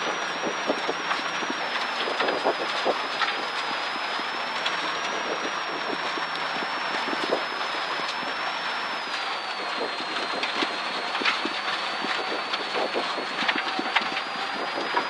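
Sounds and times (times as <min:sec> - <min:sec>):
faint high whine: 0:00.0 - 0:15.0
tyre and engine rush: 0:00.0 - 0:15.0.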